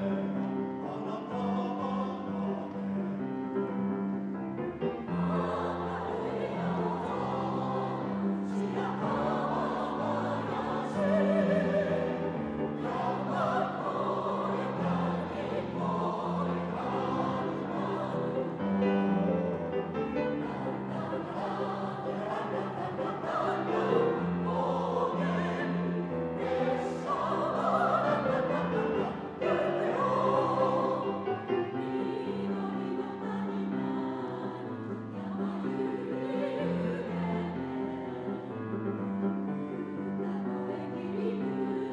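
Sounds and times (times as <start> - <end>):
grand piano: 0.0 - 41.9
mixed choir singing: 0.0 - 41.9.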